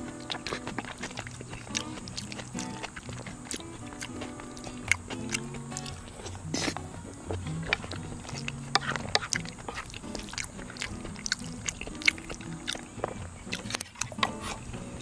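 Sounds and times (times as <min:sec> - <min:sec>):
utensils clicking against dish: 0:00.0 - 0:12.8, 0:13.5 - 0:14.6
background music with low notes: 0:00.0 - 0:15.0
chewing: 0:00.0 - 0:15.0.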